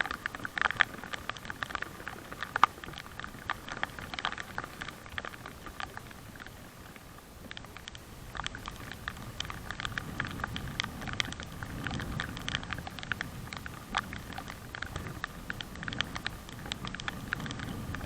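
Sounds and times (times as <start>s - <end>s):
raindrops tapping: 0.0s - 18.0s.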